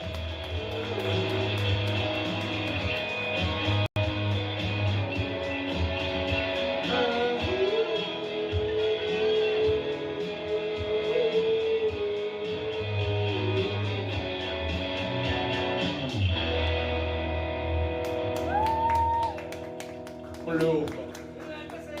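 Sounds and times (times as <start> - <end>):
low bass notes: 0.0 - 18.6.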